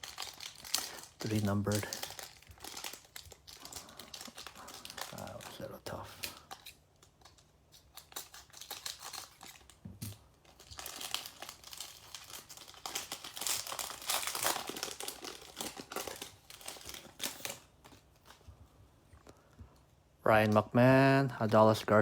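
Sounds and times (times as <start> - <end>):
foil wrapper crinkling and tearing: 0.0 - 18.5.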